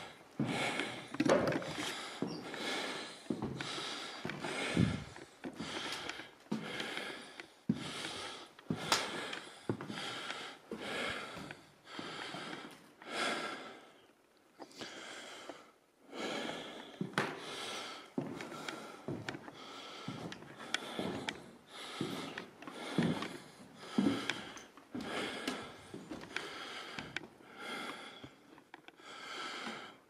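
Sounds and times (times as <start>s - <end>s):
person breathing heavily: 0.0s - 30.0s.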